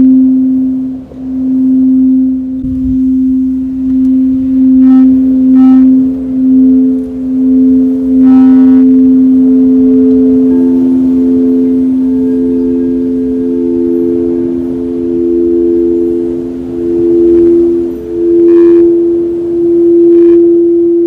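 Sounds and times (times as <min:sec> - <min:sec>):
higher singing bowl: 0:00.0 - 0:21.0
low singing bowl tone: 0:00.0 - 0:21.0.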